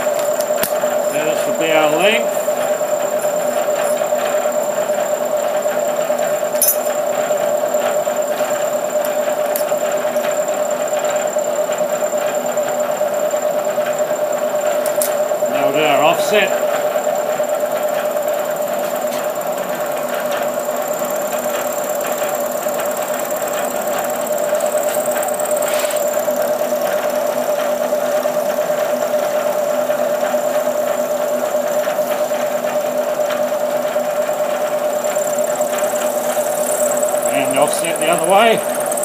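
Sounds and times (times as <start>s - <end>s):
milling machine hum: 0.0s - 39.0s.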